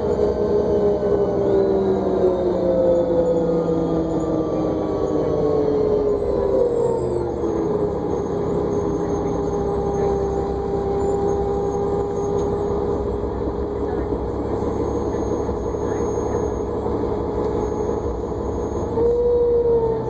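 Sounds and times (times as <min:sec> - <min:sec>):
bus engine and road rumble: 0:00.0 - 0:20.0
steady whine: 0:00.0 - 0:20.0.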